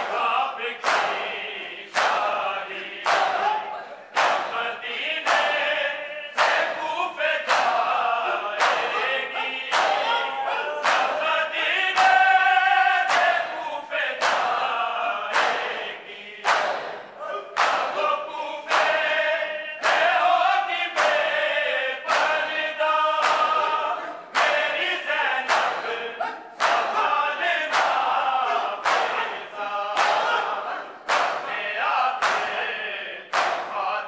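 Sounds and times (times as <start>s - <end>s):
chest beating in unison: 0.0s - 33.9s
men chanting in chorus: 0.0s - 34.0s.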